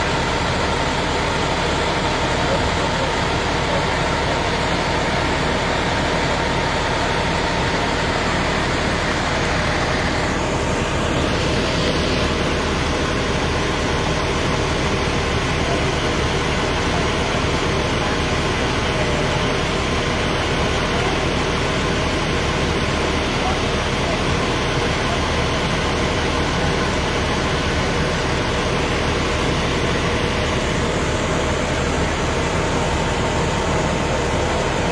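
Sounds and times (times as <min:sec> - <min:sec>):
vehicle engine rumble: 0:00.0 - 0:34.9.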